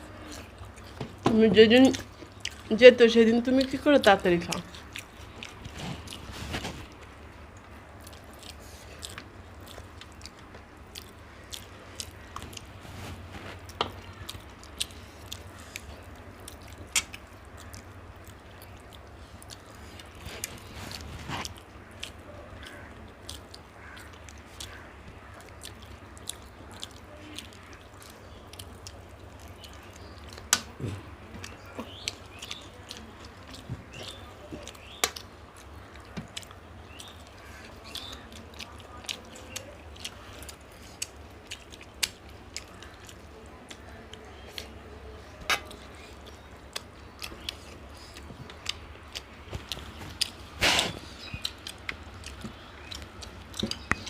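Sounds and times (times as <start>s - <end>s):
people chewing: 0.0s - 54.0s.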